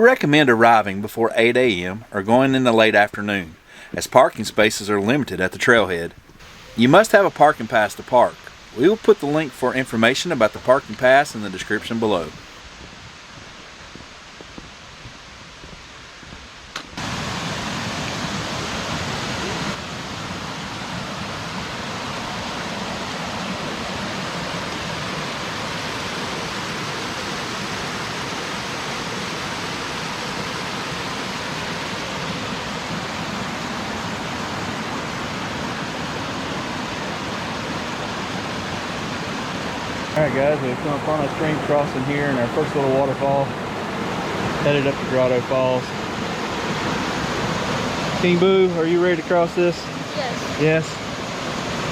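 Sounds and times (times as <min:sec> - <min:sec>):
stream rushing over rocks: 0:00.0 - 0:51.9.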